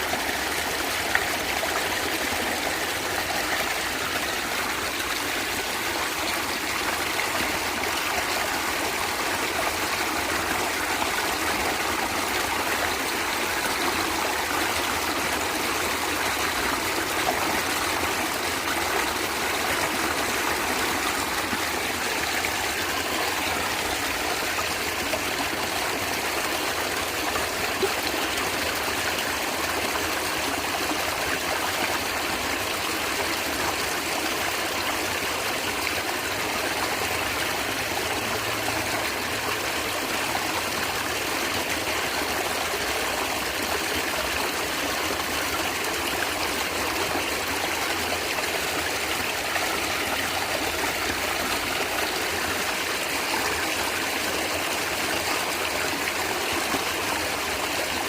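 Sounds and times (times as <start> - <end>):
stream water gurgling over stones: 0.0 - 58.0.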